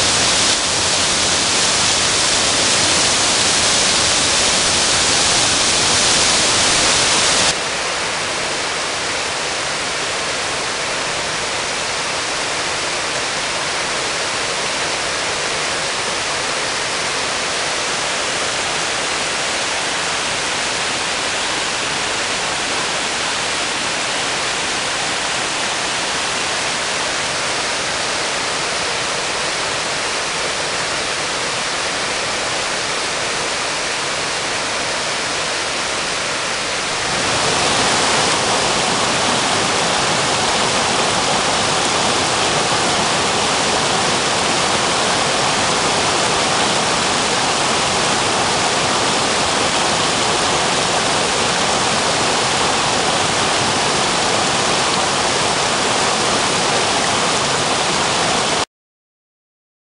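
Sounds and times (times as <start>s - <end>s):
small waterfall cascading: 0.0s - 58.7s
stream rushing over rock: 0.0s - 58.7s.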